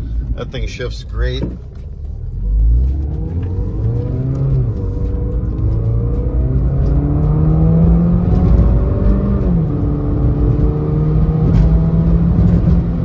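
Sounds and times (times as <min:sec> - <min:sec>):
road and tyre rumble: 0:00.0 - 0:13.0
car engine accelerating: 0:01.5 - 0:13.0.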